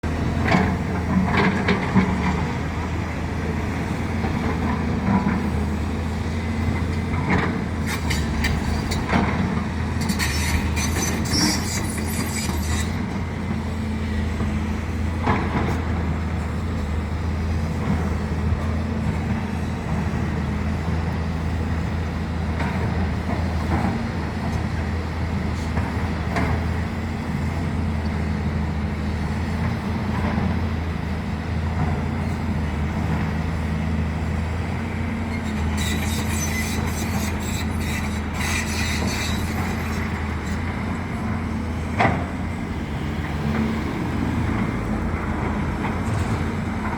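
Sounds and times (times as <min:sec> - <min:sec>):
excavator diesel engine droning: 0:00.0 - 0:46.9.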